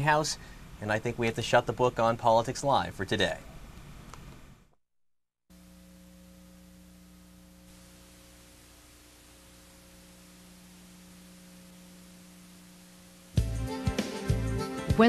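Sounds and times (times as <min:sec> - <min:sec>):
constant hiss: 0:00.0 - 0:04.7, 0:05.5 - 0:15.0
electrical mains hum: 0:00.0 - 0:04.7, 0:05.5 - 0:13.7.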